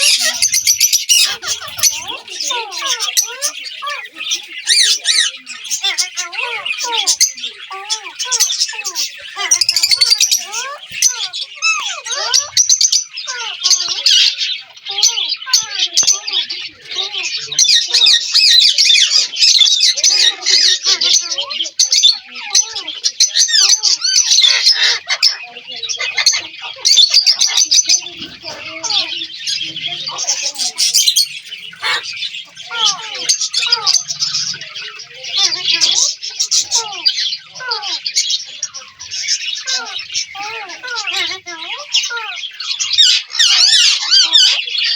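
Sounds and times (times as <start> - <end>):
parakeets squawking and chattering: 0.0 - 44.9.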